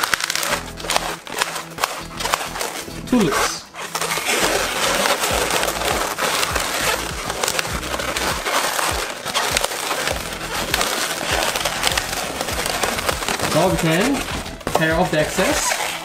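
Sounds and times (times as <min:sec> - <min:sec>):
balloons squeaking: 0:00.0 - 0:16.0.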